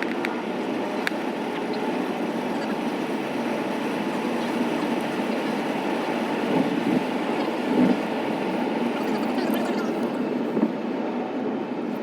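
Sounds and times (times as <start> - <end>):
road rumble inside car: 0.0 - 12.0.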